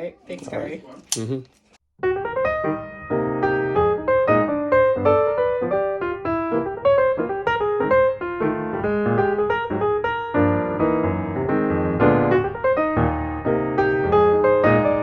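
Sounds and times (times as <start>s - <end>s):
piano music: 2.0s - 15.0s.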